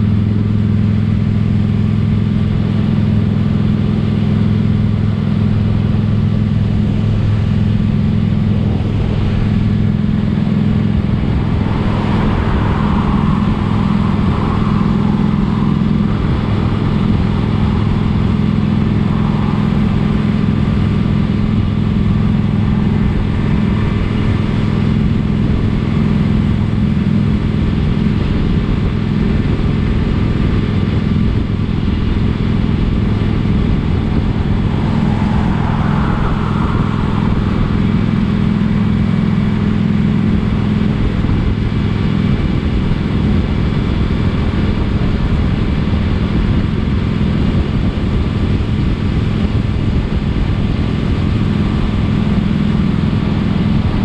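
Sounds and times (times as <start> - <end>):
motorcycle engine running steadily: 0.0 - 35.4, 36.0 - 54.0.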